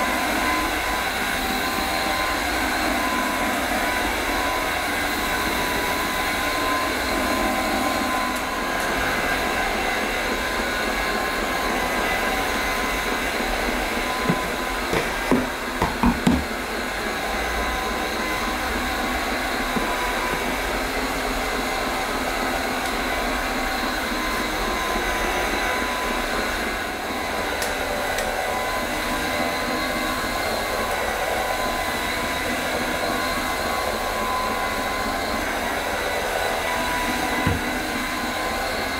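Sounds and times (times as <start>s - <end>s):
floor cleaner motor running: 0.0s - 38.9s.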